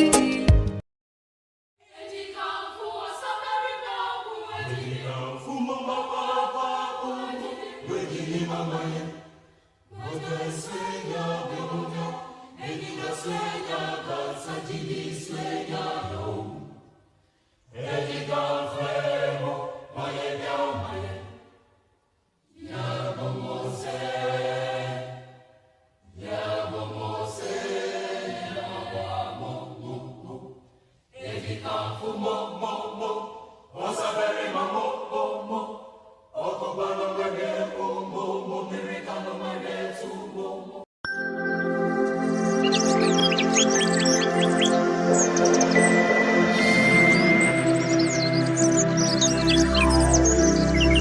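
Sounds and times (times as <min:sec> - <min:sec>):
choir singing unaccompanied: 0:01.8 - 0:16.9, 0:17.7 - 0:21.5, 0:22.5 - 0:51.0.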